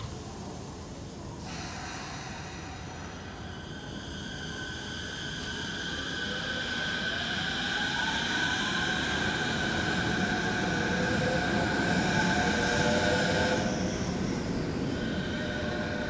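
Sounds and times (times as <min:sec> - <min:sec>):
train running noise: 0:00.0 - 0:16.0
train inverter whining: 0:02.3 - 0:16.0.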